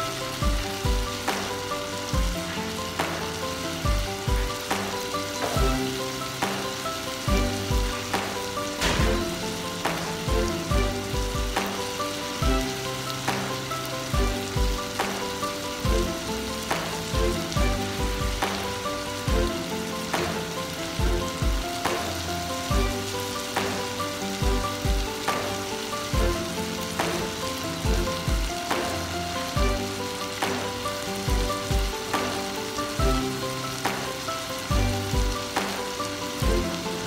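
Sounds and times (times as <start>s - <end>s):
background music with steady beat: 0.0s - 37.0s
vegetables sizzling in a pot: 0.0s - 37.0s.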